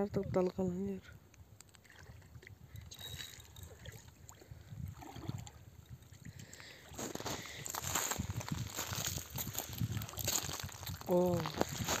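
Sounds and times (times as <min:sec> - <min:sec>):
water splashing and lapping: 0:01.6 - 0:12.0.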